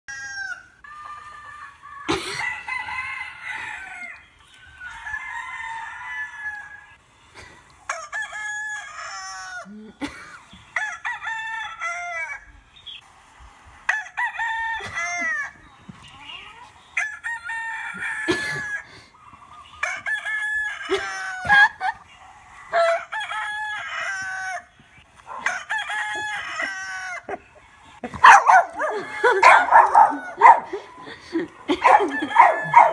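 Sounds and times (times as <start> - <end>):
recorded rooster crowing: 0.1 - 13.0, 13.8 - 15.7, 16.8 - 32.9.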